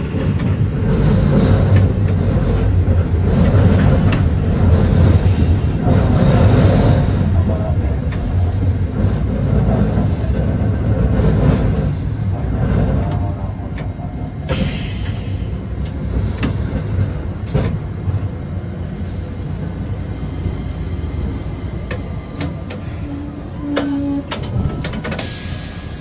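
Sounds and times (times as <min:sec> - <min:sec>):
streetcar rumbling on track: 0:00.0 - 0:26.0.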